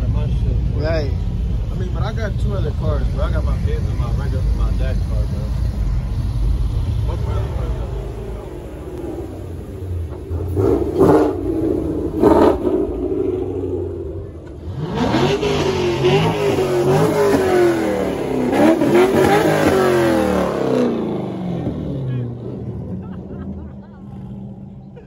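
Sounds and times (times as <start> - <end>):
car engine revving up and down: 0.0 - 25.0
engine revving: 2.2 - 25.0.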